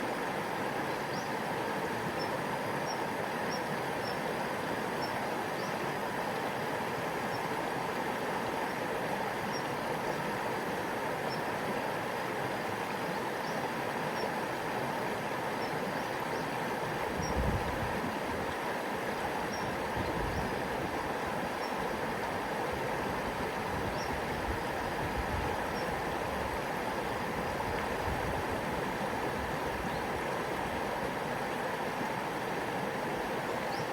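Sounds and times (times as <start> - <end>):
stream babbling over stones: 0.1 - 33.9.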